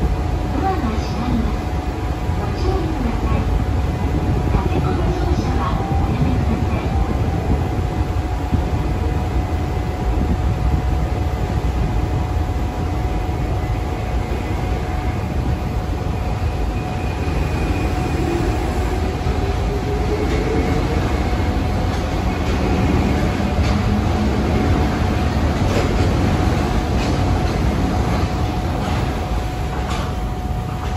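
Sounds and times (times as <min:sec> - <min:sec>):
monorail train low rumble: 0:00.0 - 0:30.9.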